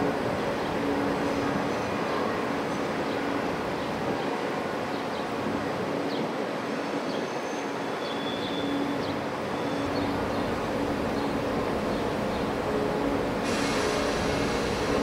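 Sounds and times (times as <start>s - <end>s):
train rolling on tracks: 0.0s - 15.0s.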